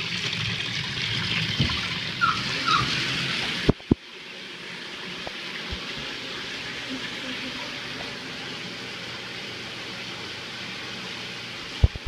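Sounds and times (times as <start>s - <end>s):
water running in toilet tank: 0.0s - 12.0s.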